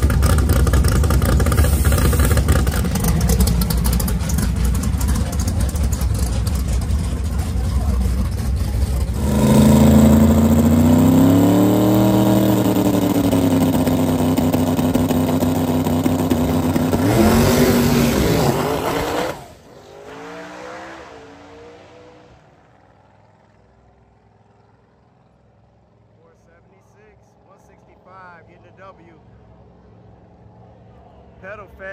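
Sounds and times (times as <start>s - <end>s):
race car engines: 0.0s - 31.9s.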